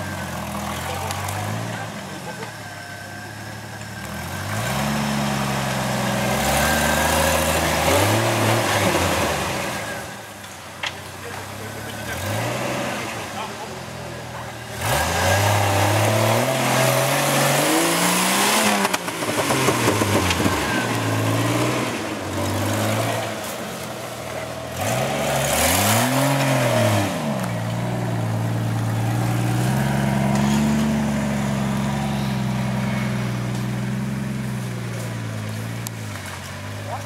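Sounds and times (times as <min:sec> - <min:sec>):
engine revving under load: 0:03.3 - 0:10.3, 0:11.0 - 0:37.0.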